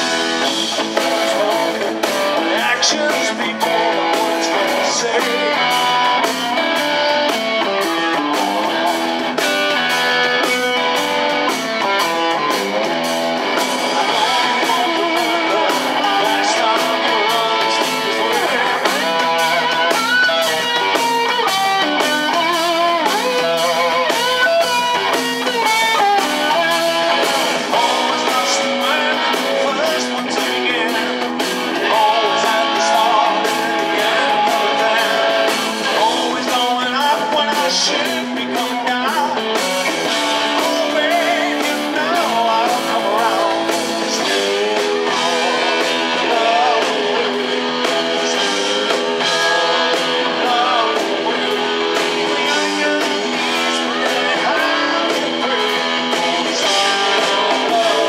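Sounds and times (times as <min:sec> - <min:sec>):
drum kit: 0:00.0 - 0:58.0
electric bass: 0:00.0 - 0:58.0
electric guitar lead: 0:00.0 - 0:58.0.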